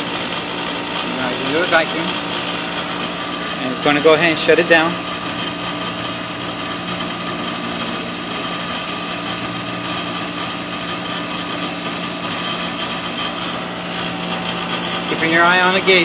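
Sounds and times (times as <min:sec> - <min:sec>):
compressor humming: 0:00.0 - 0:16.0
condenser fan air rush: 0:00.0 - 0:16.0.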